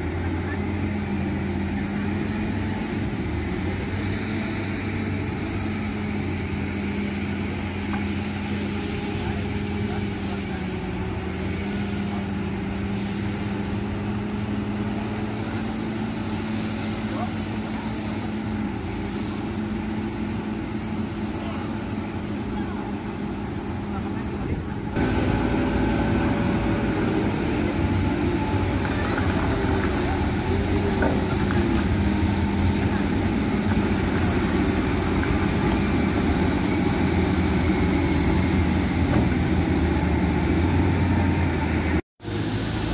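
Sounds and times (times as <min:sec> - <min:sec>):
diesel engine humming: 0:00.0 - 0:42.9.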